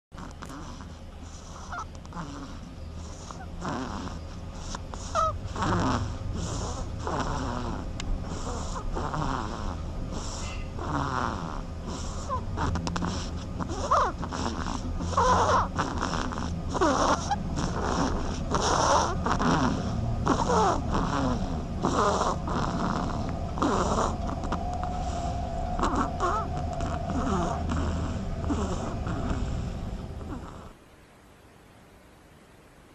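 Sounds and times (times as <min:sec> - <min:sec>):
duckling snoring: 0:00.1 - 0:30.8.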